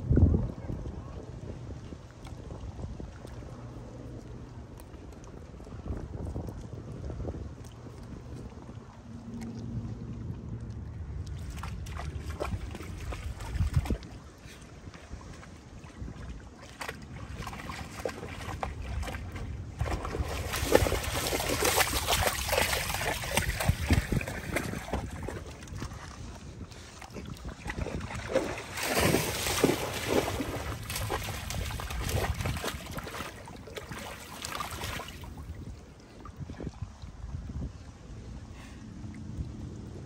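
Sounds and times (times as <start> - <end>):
water sloshing and splashing: 1.7 - 38.3.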